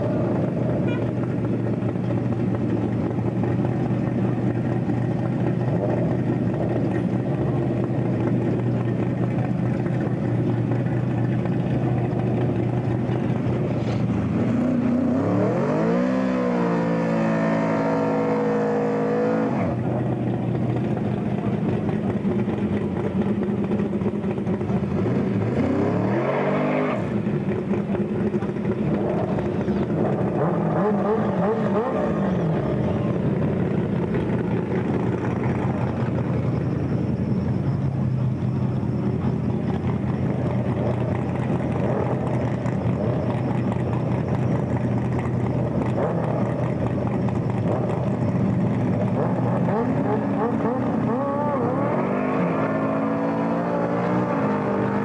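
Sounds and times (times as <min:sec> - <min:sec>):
race car engine revving: 0:00.0 - 0:37.4, 0:38.8 - 0:55.0
motorcycle engine: 0:00.0 - 0:55.0.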